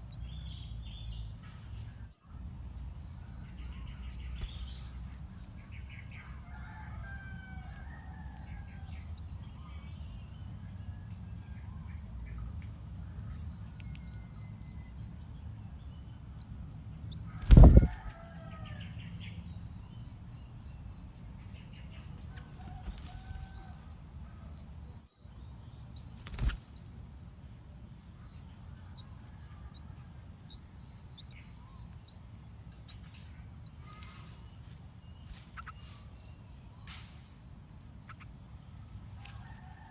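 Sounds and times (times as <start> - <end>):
bird chirps: 0.0 - 39.9
insect trilling: 0.0 - 39.9.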